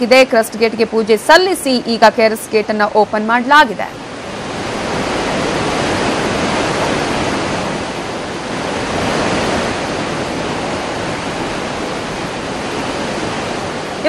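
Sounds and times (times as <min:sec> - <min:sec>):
water rushing through dam gates: 0:00.0 - 0:14.0.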